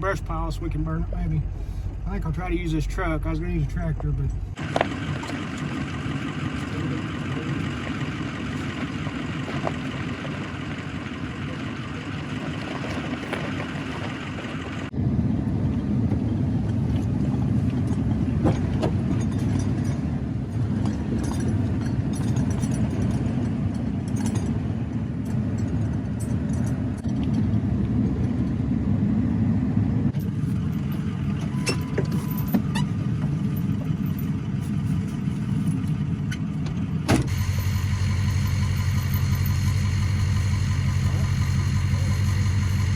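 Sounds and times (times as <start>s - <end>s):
truck engine running: 0.0s - 15.0s, 15.6s - 42.9s.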